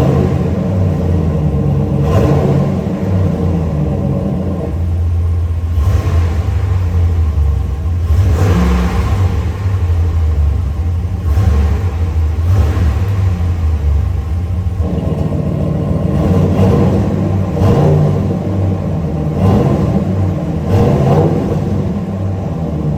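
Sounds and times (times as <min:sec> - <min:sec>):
truck exhaust rumbling and revving: 0:00.0 - 0:22.9.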